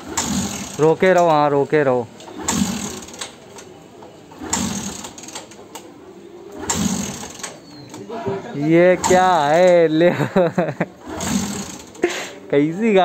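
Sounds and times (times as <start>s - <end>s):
motorcycle being kick-started: 0.0s - 8.1s, 8.7s - 12.2s.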